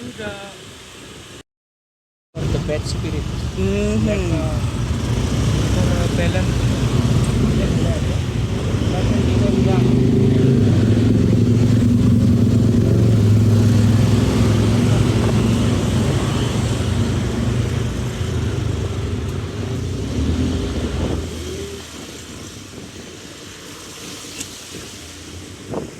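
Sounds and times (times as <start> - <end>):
road and wind noise: 0.0 - 1.4, 2.4 - 25.9.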